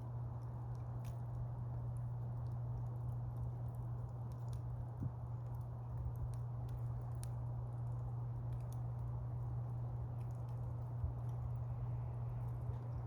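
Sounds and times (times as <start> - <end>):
campfire crackling and popping: 0.0 - 13.0
low rumble of fire: 0.0 - 13.0.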